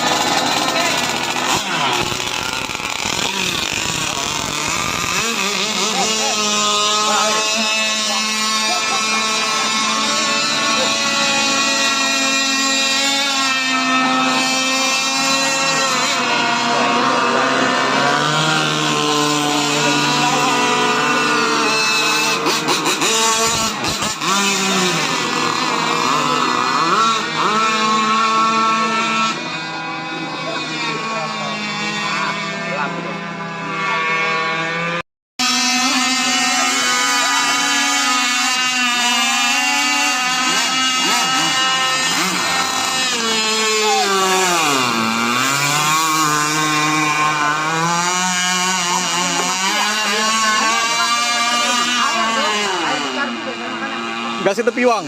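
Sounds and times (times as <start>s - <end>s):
racing boat motors whining: 0.0s - 55.0s.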